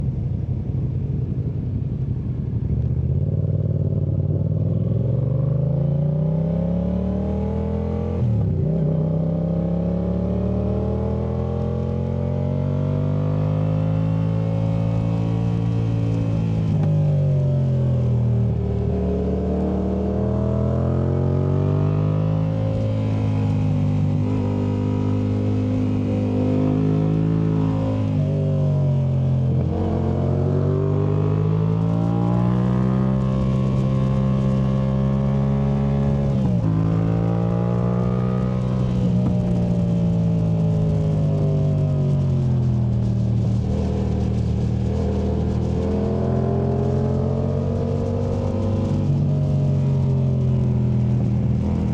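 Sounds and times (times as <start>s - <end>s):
motorcycle engine revving: 3.1s - 51.9s.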